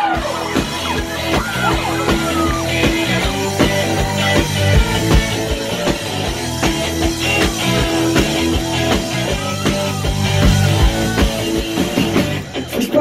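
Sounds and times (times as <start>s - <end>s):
driving bass guitar riff: 0.0s - 13.0s
guitar: 0.0s - 13.0s
steady kick drum: 0.5s - 12.4s.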